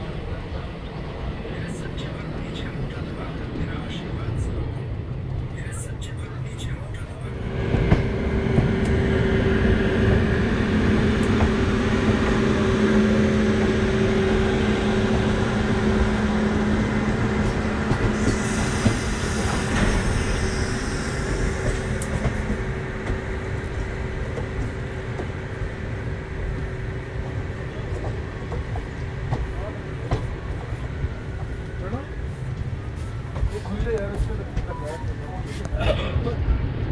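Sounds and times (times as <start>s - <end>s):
locomotive hum: 0.0s - 36.9s
train wheels rumbling on rails: 0.0s - 36.9s.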